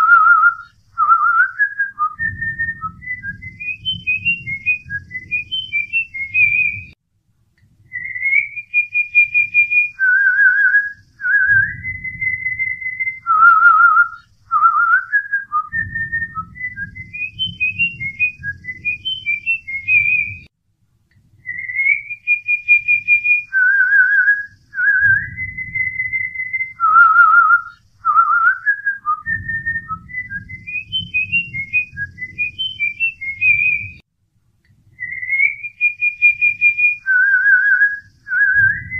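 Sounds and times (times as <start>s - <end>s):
person whistling a tune: 0.0s - 7.0s, 7.9s - 20.5s, 21.4s - 34.0s, 35.0s - 38.9s.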